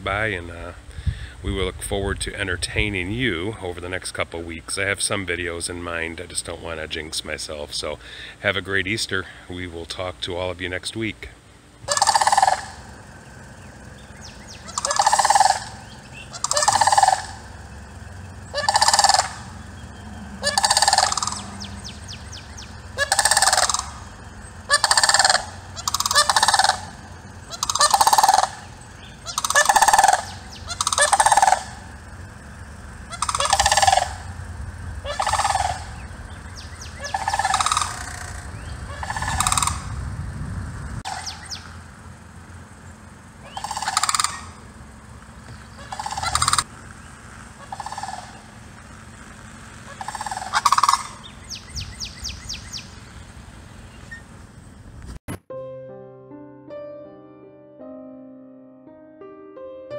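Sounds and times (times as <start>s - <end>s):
low rumble: 0.0s - 4.6s, 11.7s - 55.2s
crane trumpeting calls: 5.4s - 54.9s.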